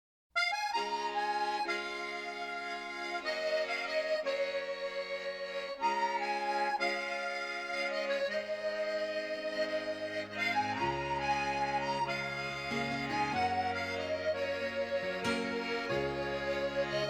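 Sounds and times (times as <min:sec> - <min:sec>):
accordion music: 0:00.4 - 0:17.0.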